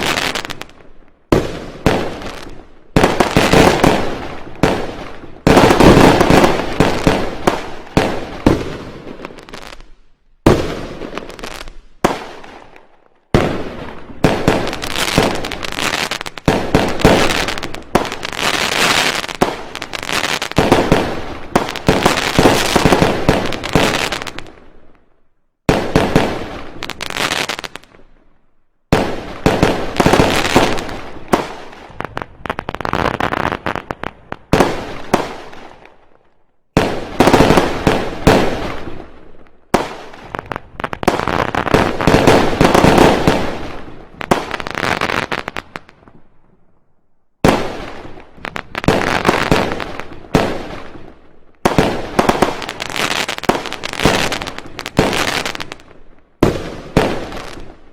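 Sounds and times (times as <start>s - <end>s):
fireworks banging and crackling: 0.0s - 25.0s, 25.7s - 28.2s, 28.9s - 46.6s, 47.4s - 57.9s.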